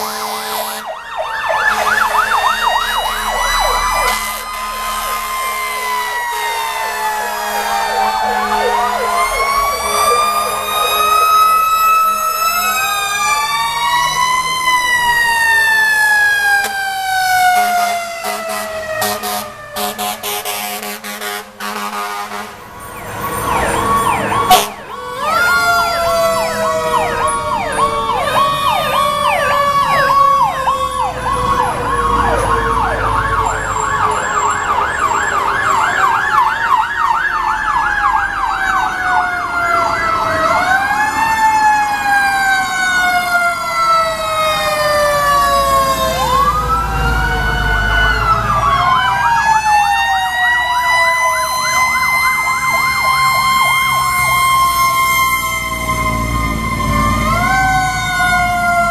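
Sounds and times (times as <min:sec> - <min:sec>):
fire truck sirens yelping: 0:00.0 - 0:58.9
sirens wailing: 0:00.0 - 0:58.9
truck engines rumbling: 0:00.0 - 0:58.9.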